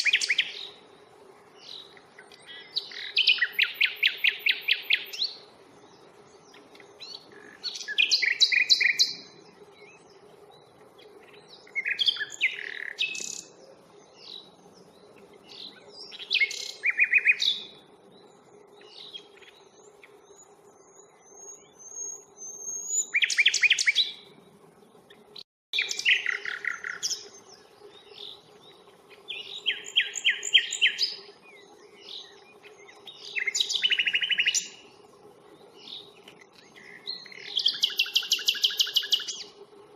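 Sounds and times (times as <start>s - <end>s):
nightingale singing: 0.0s - 39.7s.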